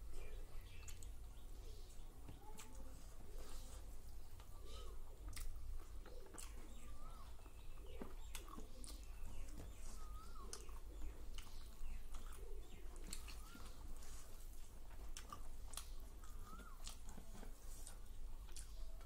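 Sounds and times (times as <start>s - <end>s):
bird chirping: 0.0s - 19.0s
chewing and lip-smacking: 0.6s - 1.2s, 4.0s - 19.0s.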